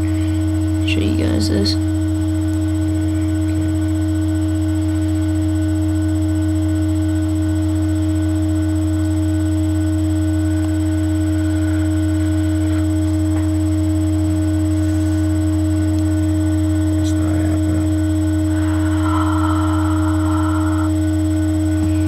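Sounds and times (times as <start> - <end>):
loud electrical hum: 0.0 - 22.0.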